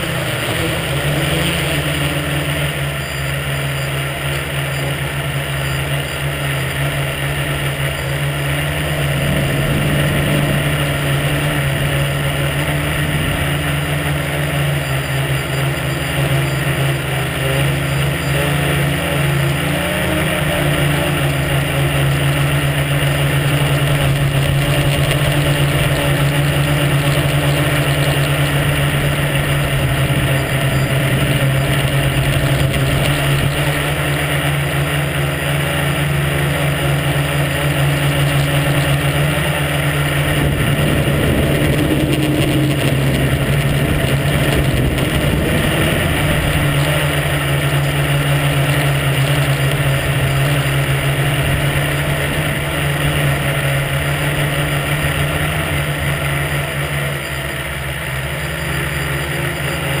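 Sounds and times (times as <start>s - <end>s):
drone motors buzzing: 0.0s - 60.0s.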